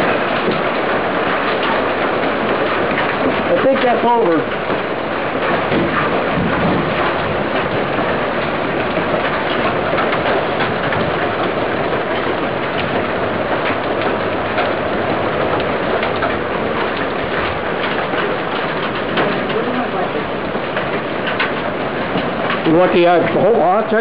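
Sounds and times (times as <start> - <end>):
hail clattering on lawn and roofs: 0.0 - 24.0.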